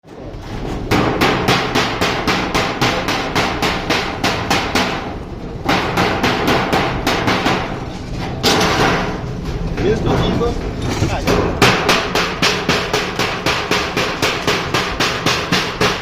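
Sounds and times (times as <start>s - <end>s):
rapid hammering on metal: 0.9s - 9.3s, 11.2s - 16.0s.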